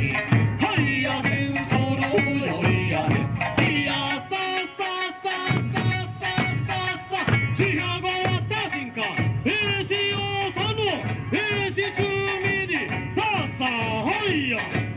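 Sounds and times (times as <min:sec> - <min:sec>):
music with steady beat: 0:00.0 - 0:14.9.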